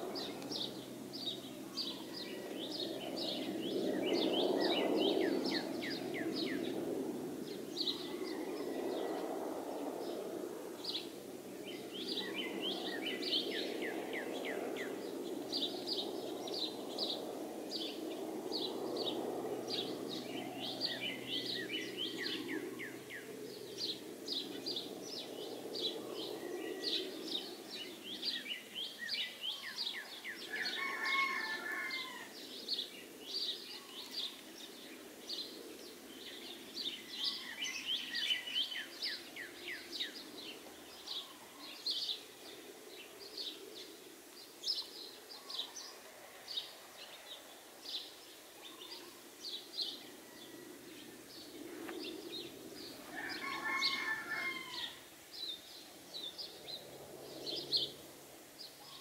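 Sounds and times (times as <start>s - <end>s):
low steady rushing noise: 0.0s - 59.0s
small songbirds chirping: 0.0s - 59.0s.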